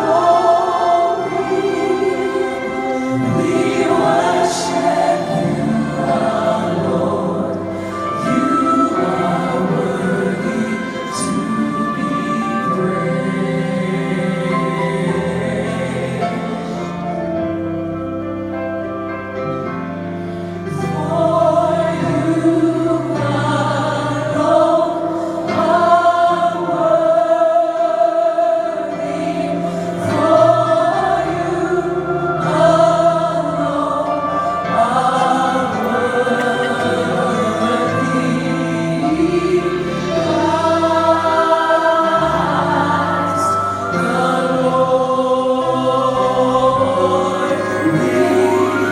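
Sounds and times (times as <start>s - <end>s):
choir singing sustained chords: 0.0s - 48.9s.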